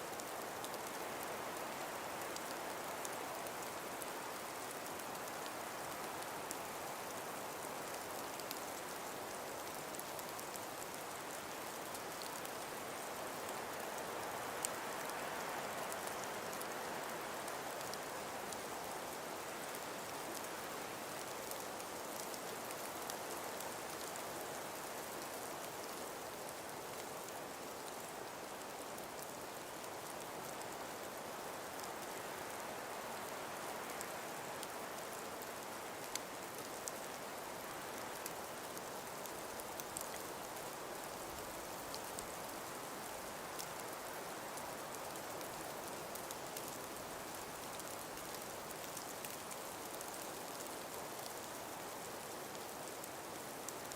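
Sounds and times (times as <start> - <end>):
outdoor hiss: 0.0 - 53.9
faint ticks: 7.8 - 53.9.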